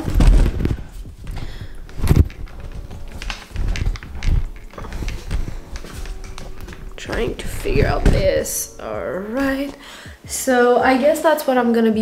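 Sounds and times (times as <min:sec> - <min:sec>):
dull knocks and thumps: 0:00.0 - 0:09.8.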